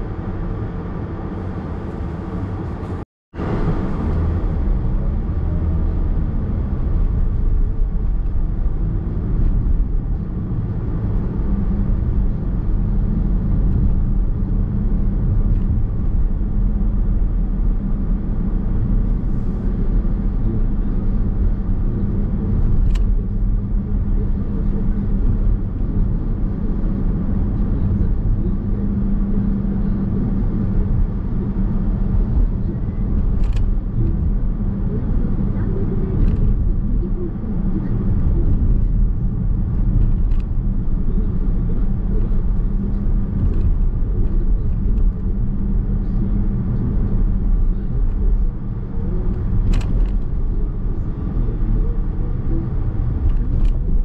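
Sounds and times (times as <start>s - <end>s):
tyre and road noise in car: 0.0s - 54.0s.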